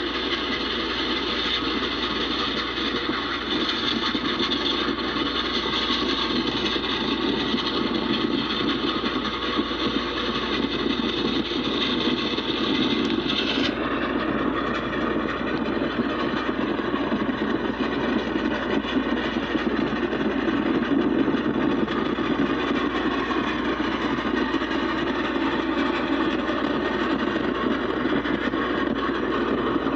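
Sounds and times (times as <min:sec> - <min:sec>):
passenger train running: 0:00.0 - 0:29.9.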